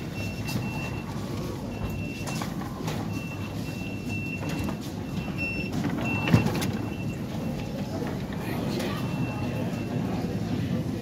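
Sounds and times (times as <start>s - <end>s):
ticket barrier beeping: 0.0s - 10.5s
busy hall rumble: 0.0s - 11.0s.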